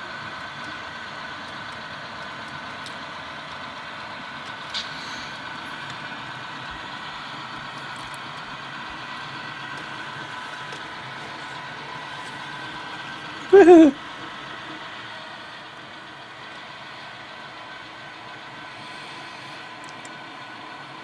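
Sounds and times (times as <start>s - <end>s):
model locomotive diesel engine sound: 0.0s - 21.0s.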